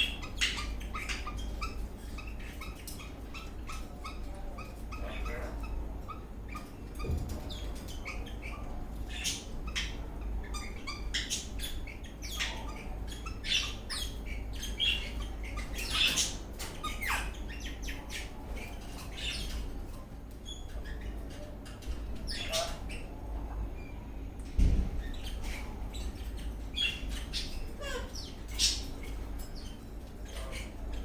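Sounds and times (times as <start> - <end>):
parrot chirping and squawking: 0.0 - 23.9, 25.0 - 31.0.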